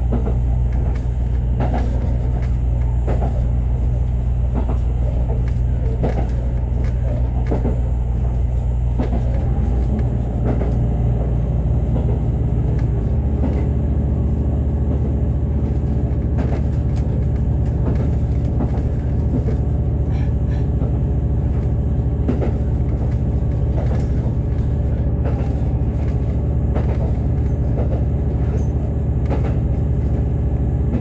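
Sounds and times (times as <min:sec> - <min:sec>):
train running heard inside carriage: 0:00.0 - 0:31.0
wheels clicking on track: 0:00.0 - 0:31.0.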